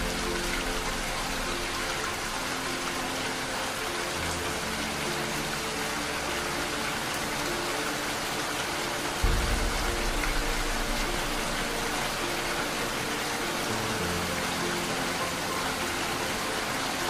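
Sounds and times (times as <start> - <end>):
soft slow background music: 0.0 - 17.0
steady rain hiss: 0.0 - 17.0.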